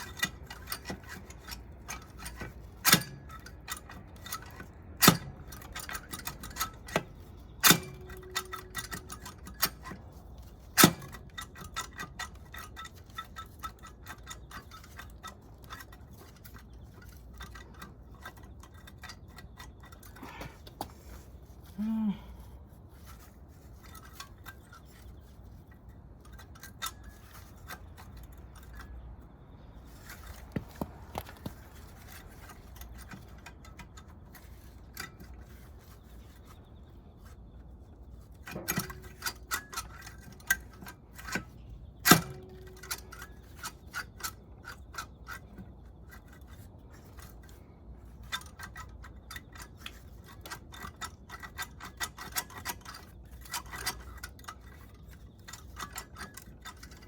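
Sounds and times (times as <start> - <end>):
metal tools clicking and clinking: 0.0 - 20.7, 23.0 - 37.4, 38.1 - 57.0.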